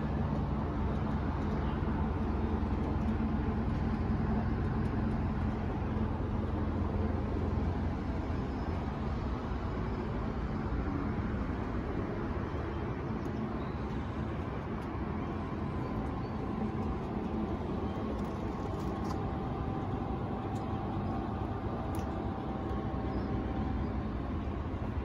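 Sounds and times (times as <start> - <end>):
distant street traffic: 0.0 - 25.0.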